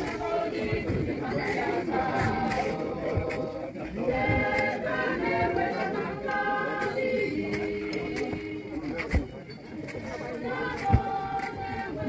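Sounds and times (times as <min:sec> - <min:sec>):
crowd talking: 0:00.0 - 0:12.0
voices singing together: 0:00.0 - 0:12.0.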